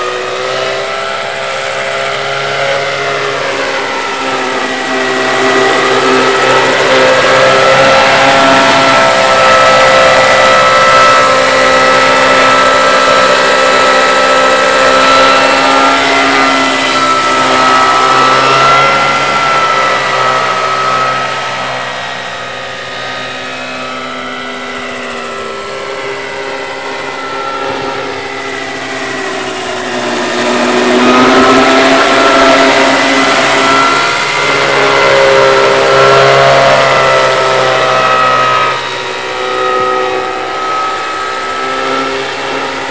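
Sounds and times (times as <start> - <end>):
model helicopter whine: 0.0 - 42.9.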